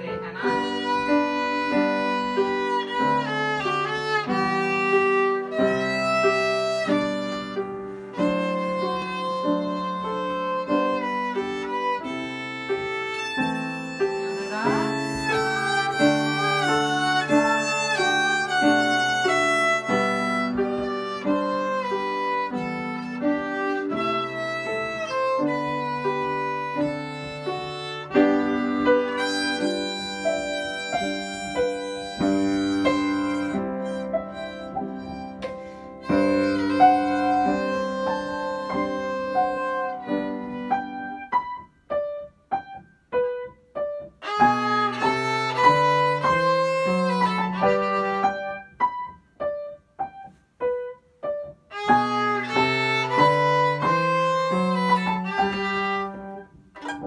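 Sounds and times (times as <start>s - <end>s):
bowed violin melody: 0.0s - 42.2s, 44.2s - 49.1s, 51.7s - 57.0s.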